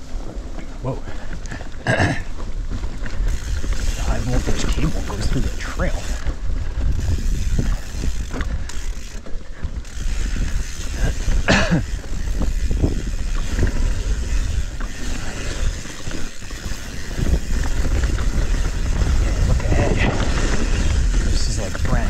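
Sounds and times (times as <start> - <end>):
bike parts rattling: 0.0 - 22.0
tyre and wind rumble: 0.0 - 22.0.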